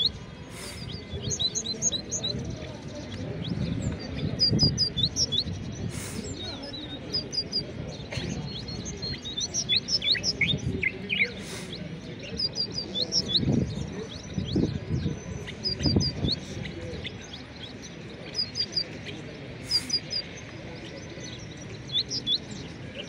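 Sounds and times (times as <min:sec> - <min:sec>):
murmur of voices: 0:00.0 - 0:23.0
songbirds chirping and twittering: 0:00.0 - 0:23.0.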